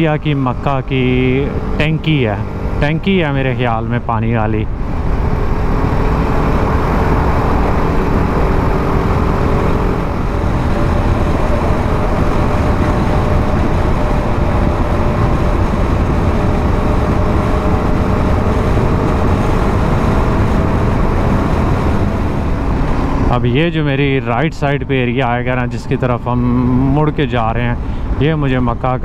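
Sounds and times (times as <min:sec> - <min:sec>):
motorcycle engine drone: 0:00.0 - 0:29.0
wind and road noise: 0:00.0 - 0:29.0.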